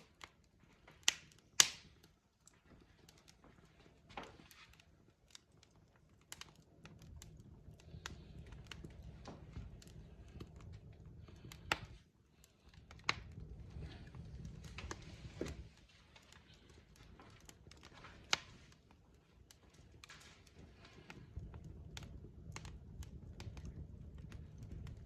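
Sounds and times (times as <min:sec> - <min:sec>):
log fire crackling and popping: 0:00.0 - 0:25.0
low rumble of flames: 0:00.0 - 0:25.0.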